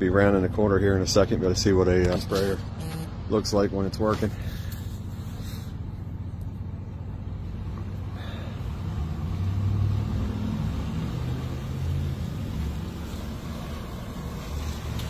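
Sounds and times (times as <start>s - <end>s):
truck engine hum: 0.0s - 15.0s.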